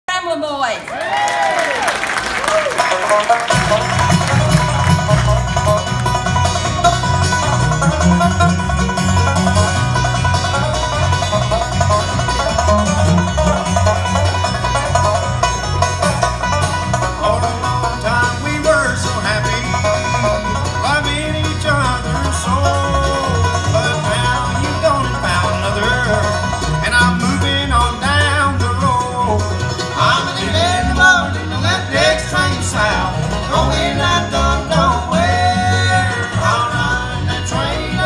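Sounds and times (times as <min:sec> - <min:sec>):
bluegrass band playing: 0:01.7 - 0:38.0
walking upright bass: 0:02.6 - 0:38.0.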